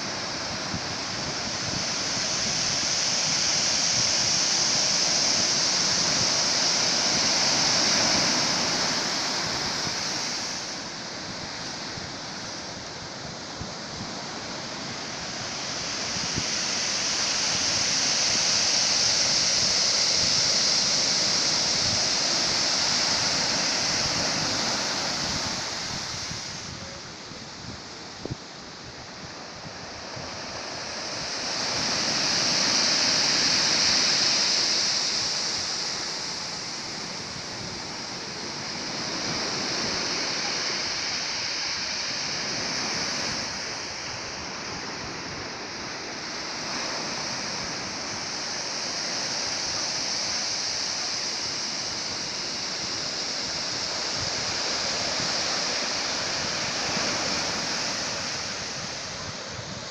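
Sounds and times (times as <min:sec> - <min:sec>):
ocean waves washing in: 0:00.0 - 0:59.9.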